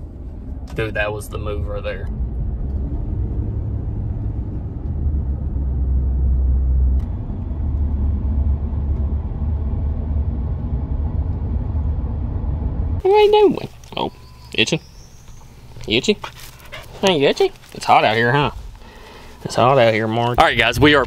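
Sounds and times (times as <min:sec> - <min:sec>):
road and engine rumble in truck cab: 0:00.0 - 0:21.0.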